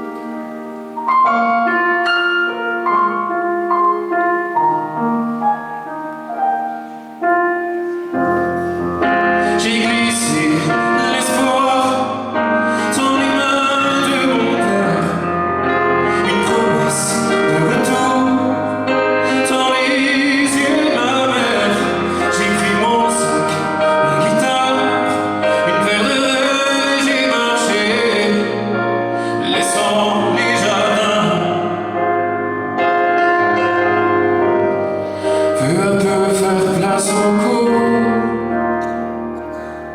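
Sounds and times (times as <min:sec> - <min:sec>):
person singing: 0:00.0 - 0:39.9
piano: 0:00.0 - 0:39.9.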